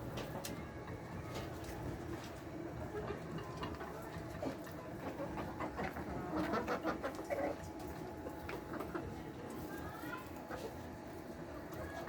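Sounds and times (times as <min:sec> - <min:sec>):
hens clucking: 0:00.0 - 0:12.0
low background hum: 0:00.0 - 0:12.0.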